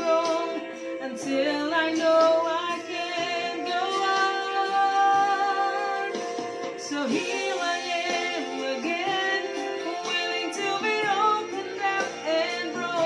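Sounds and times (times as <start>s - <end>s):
musical accompaniment: 0.0s - 13.0s
person singing: 0.0s - 13.0s.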